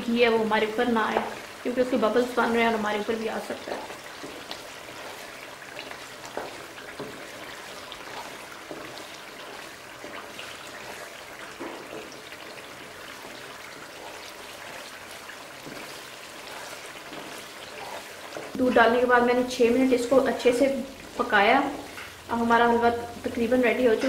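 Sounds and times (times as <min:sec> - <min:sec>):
halwa bubbling and sizzling in ghee: 0:00.0 - 0:24.0
wooden spoon stirring: 0:00.3 - 0:22.2.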